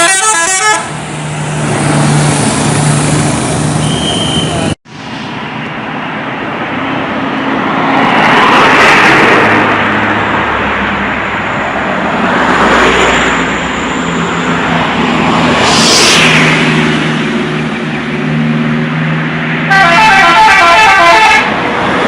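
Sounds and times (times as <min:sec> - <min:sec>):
vehicles passing on road: 0:00.0 - 0:22.0.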